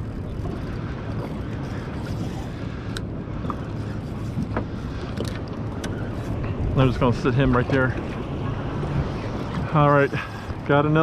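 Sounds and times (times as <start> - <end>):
boat motor humming: 0.0 - 11.0
water noise: 0.0 - 11.0
wind: 0.0 - 11.0.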